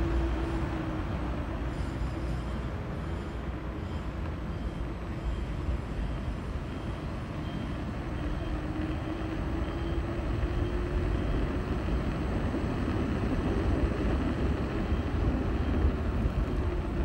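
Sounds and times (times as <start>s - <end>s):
vehicle road noise and engine: 0.0s - 17.0s.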